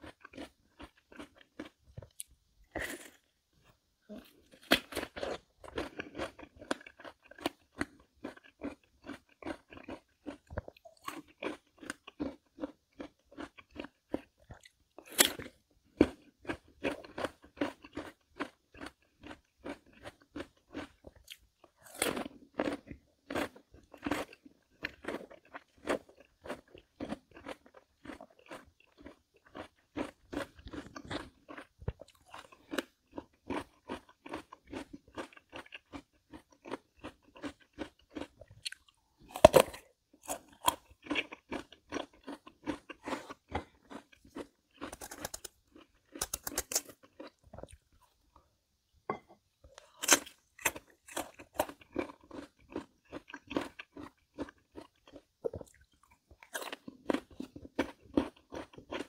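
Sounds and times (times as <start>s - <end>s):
melon being chewed crunchily: 0.0s - 48.4s, 49.7s - 59.0s.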